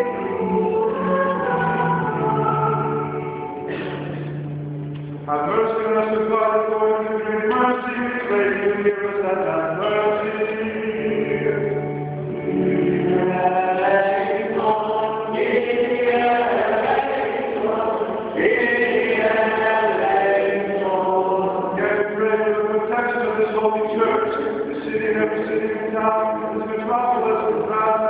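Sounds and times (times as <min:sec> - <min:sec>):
voices chanting a hymn: 0:00.0 - 0:04.3, 0:05.3 - 0:28.0.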